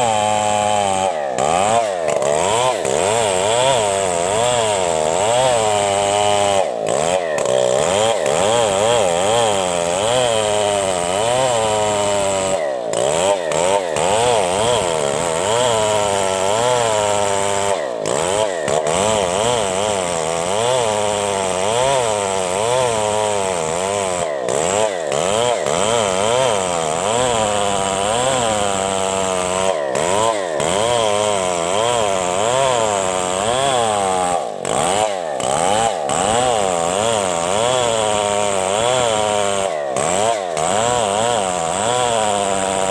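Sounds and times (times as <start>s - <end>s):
chainsaw cutting log: 0.0s - 42.9s.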